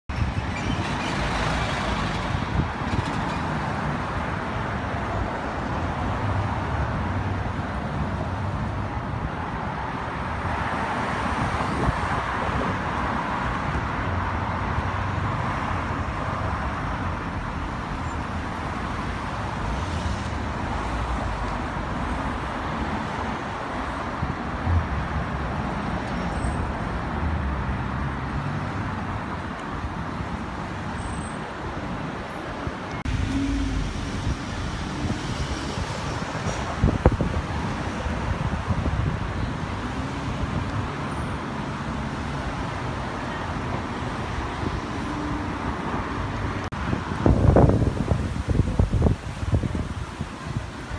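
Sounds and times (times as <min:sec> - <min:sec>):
cars driving past: 0:00.2 - 0:50.0.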